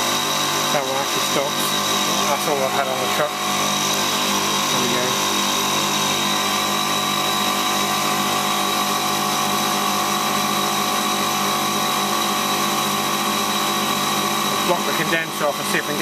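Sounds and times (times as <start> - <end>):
condensing unit humming: 0.0 - 16.0.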